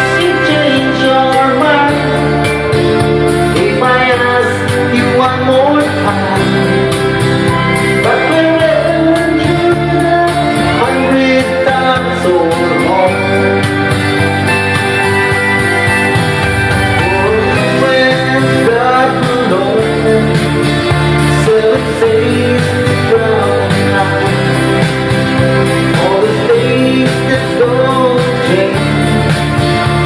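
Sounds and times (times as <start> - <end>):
guitar accompaniment: 0.0 - 30.0
person singing: 0.0 - 30.0.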